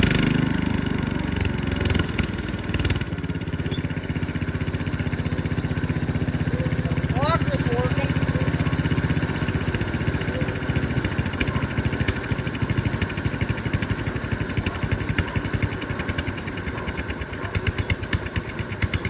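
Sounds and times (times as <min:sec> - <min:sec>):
garden tractor engine running: 0:00.0 - 0:19.0.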